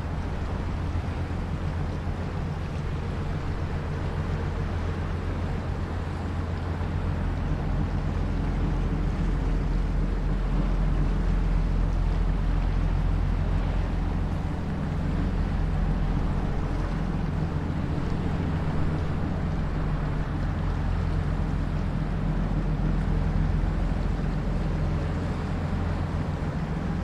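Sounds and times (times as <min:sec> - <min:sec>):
boat engine droning: 0:00.0 - 0:27.0
wind rumbling on microphone: 0:00.0 - 0:27.0.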